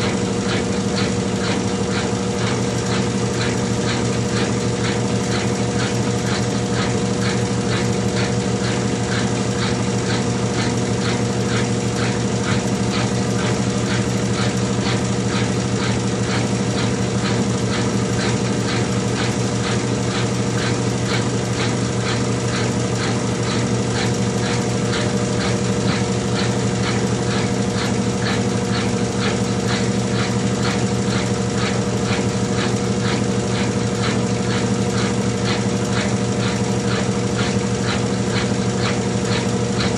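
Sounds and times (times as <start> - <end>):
washing machine motor humming: 0.0 - 39.9
washing machine ticking: 0.0 - 39.9.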